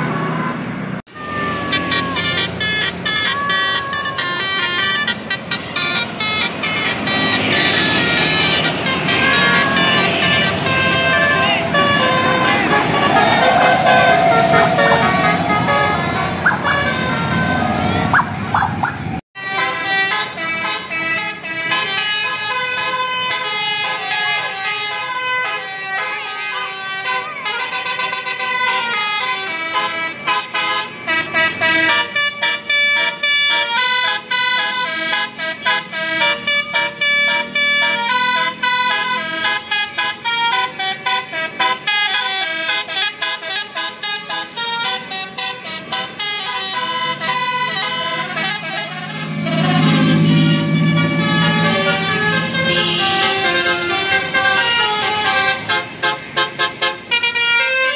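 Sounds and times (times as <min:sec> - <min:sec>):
musical air horn melody: 0:01.1 - 0:18.6, 0:19.4 - 0:57.9.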